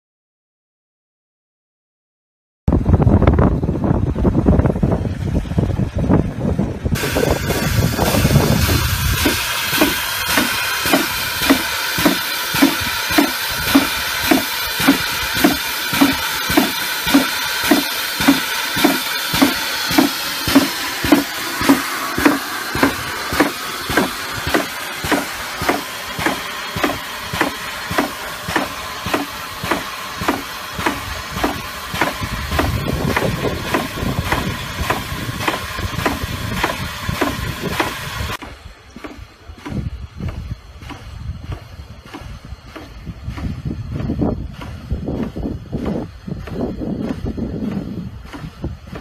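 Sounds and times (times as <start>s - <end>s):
low rumble: 2.7s - 49.0s
pump thumping: 4.6s - 49.0s
steady hiss: 7.0s - 49.0s.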